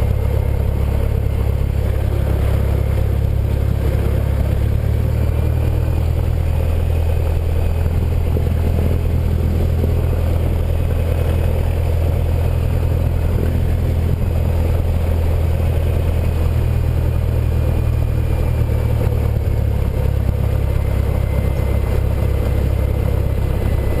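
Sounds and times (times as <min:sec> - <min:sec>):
propeller aircraft engine droning: 0:00.0 - 0:24.0.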